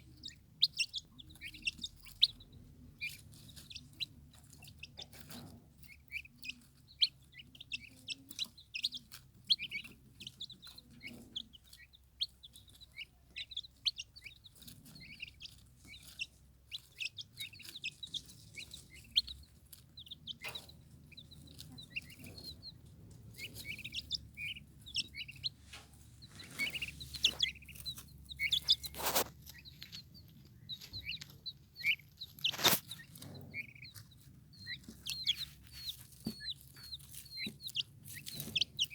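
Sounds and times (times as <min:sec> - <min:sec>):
turkey poults peeping: 0:00.0 - 0:38.9.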